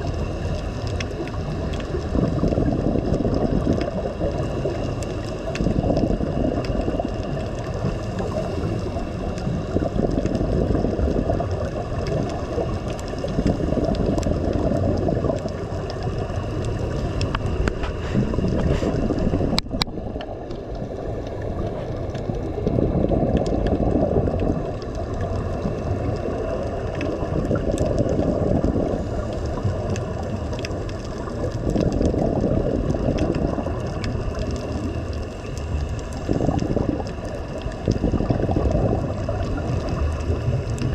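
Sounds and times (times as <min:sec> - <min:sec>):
sea water sloshing and surging: 0:00.0 - 0:40.9.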